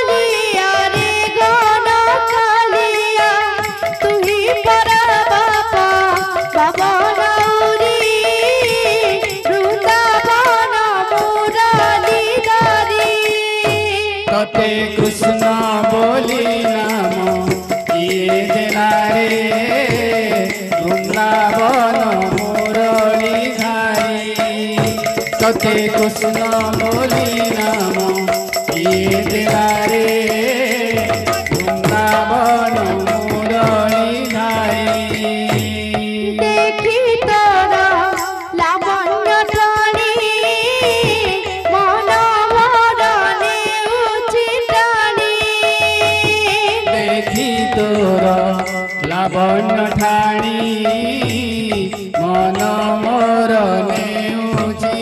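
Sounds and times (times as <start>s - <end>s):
jingled frame drum: 0.0s - 55.0s
barrel drum: 2.9s - 55.0s.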